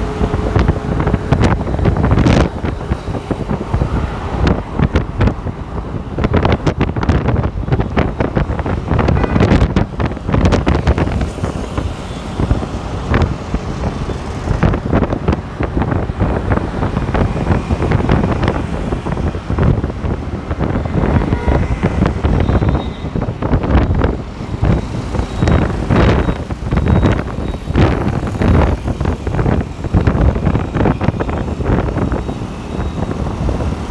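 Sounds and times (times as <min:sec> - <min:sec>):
road traffic: 0:00.0 - 0:33.9
wind buffeting microphone: 0:00.0 - 0:33.9.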